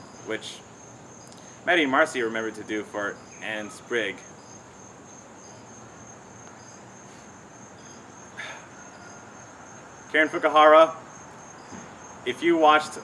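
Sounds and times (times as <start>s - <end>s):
crickets trilling: 0.0s - 13.0s
faint outdoor background noise: 0.0s - 13.0s.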